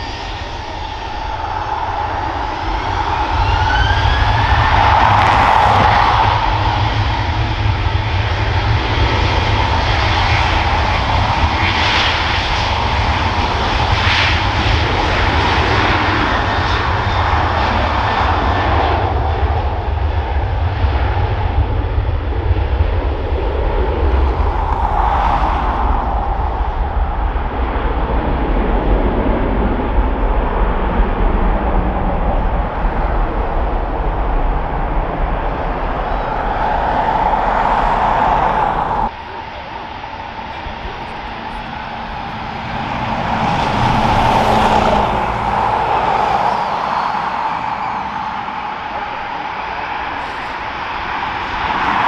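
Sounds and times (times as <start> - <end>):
airliner engines running: 0.0 - 52.0
wind buffeting microphone: 0.0 - 52.0.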